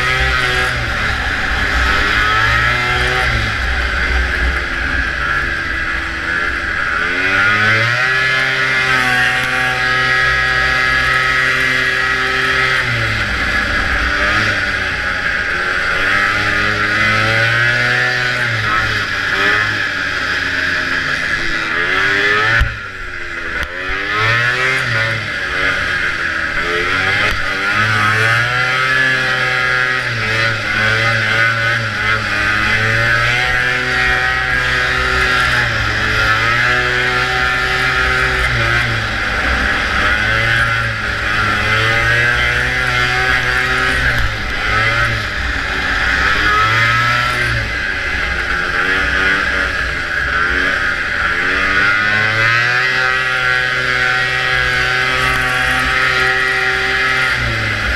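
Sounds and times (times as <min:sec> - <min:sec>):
two-stroke snowmobile engine revving: 0:00.0 - 0:57.9.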